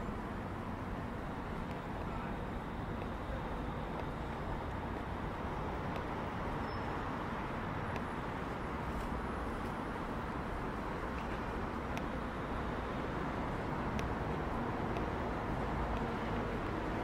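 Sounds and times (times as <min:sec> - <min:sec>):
city rumble and hiss: 0:00.0 - 0:17.0.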